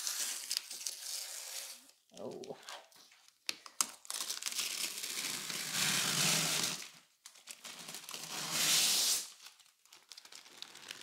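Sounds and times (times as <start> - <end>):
plastic film peeling and crinkling: 0.0 - 11.0.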